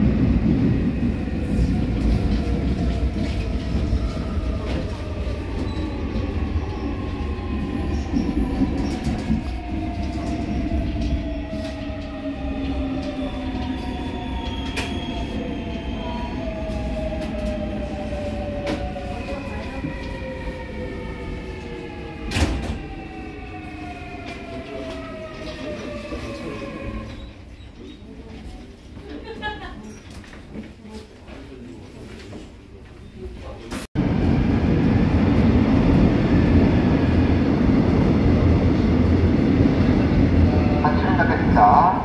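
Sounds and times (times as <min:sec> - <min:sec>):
subway train motors whining: 0:00.0 - 0:29.8, 0:32.3 - 0:42.0.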